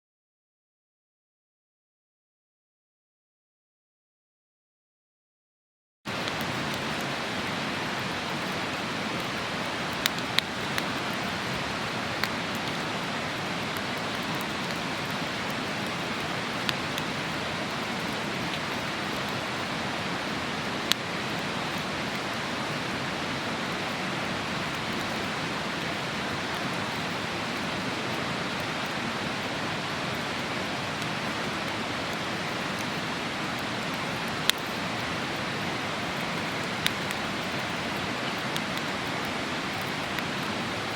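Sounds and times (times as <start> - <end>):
campfire crackling and popping: 6.1 - 40.9
river rushing: 6.1 - 40.9.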